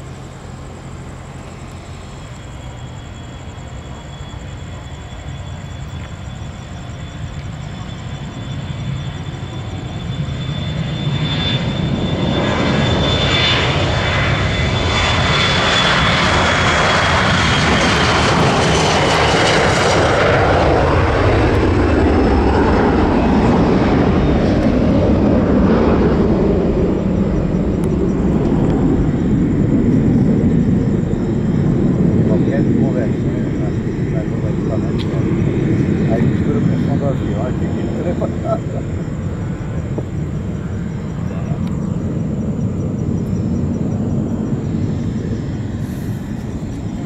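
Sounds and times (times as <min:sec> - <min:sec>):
jet engines at takeoff thrust: 0:00.0 - 0:47.0.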